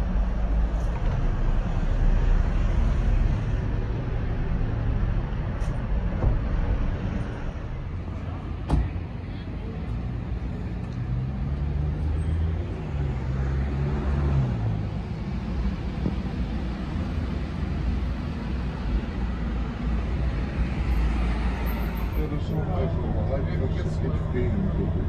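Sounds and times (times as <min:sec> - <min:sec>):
cars and buses passing: 0:00.0 - 0:25.0
vehicle engine hum: 0:00.0 - 0:25.0.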